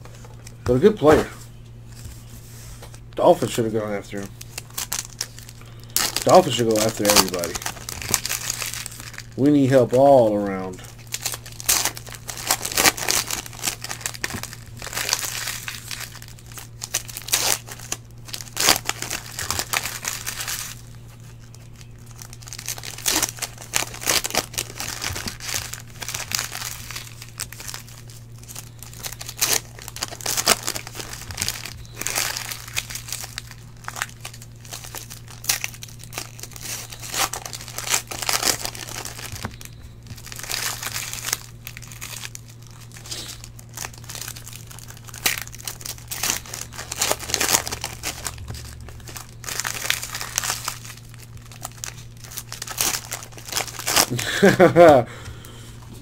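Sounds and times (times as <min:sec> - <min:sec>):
steady low hum: 0:00.0 - 0:56.0
card pack wrappers crinkling: 0:01.9 - 0:55.1.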